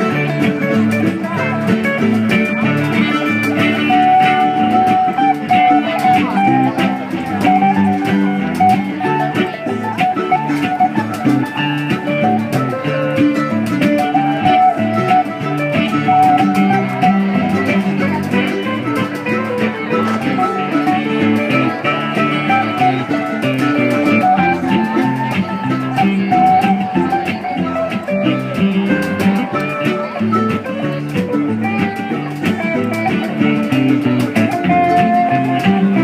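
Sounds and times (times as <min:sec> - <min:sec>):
congas: 0:00.0 - 0:36.0
mandolin: 0:00.0 - 0:36.0
plucked guitar: 0:00.0 - 0:36.0.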